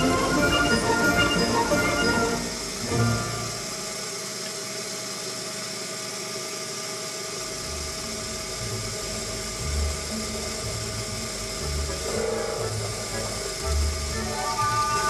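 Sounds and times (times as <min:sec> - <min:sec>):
lathe whining: 0:00.0 - 0:15.0.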